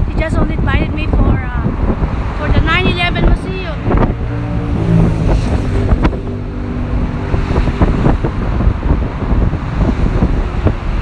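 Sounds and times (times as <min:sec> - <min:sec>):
passing road traffic rumble: 0:00.0 - 0:11.0
wind buffeting microphone: 0:00.0 - 0:11.0.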